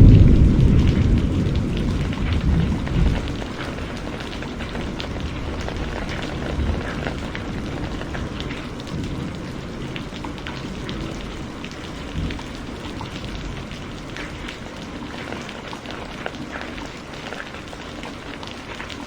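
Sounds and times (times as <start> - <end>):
heavy rain: 0.0 - 19.0
raindrops ticking: 0.0 - 19.0.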